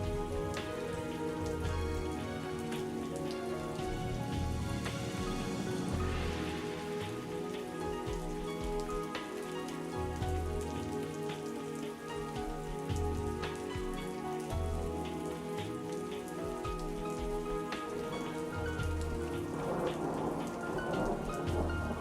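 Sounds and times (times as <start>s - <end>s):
rain drops striking a surface: 0.0s - 22.0s
soft music with sustained notes: 0.0s - 22.0s.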